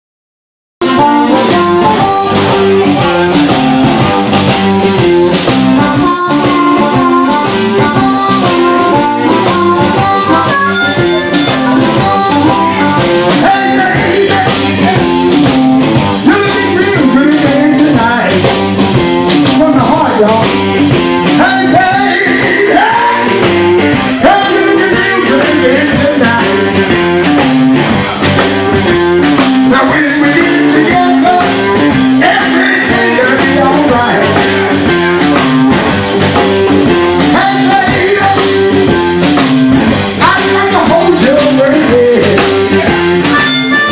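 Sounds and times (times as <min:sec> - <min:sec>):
bass guitar: 0:00.8 - 0:43.9
drum kit: 0:00.8 - 0:43.9
electric guitars: 0:00.8 - 0:43.9.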